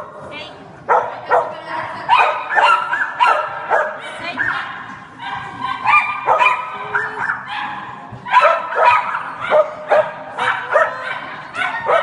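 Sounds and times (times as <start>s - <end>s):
dog barking high-pitched: 0.9s - 1.5s, 2.1s - 12.0s.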